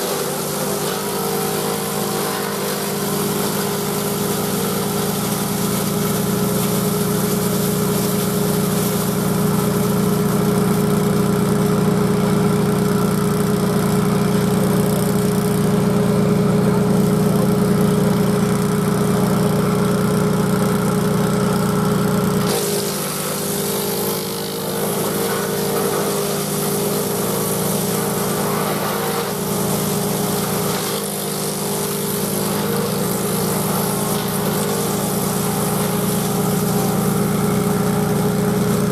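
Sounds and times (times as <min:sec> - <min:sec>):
chipper shredder rushing: 0:00.0 - 0:38.9
tractor engine running: 0:00.0 - 0:38.9.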